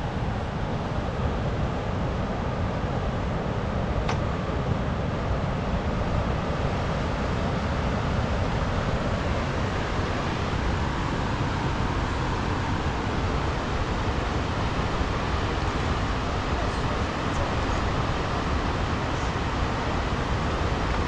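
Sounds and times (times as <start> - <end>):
rushing noise with low rumble: 0.0 - 21.0.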